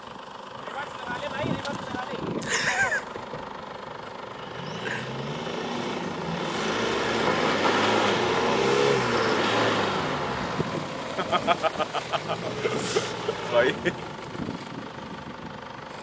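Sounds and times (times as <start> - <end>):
suv engine revving under load: 2.3 - 16.0.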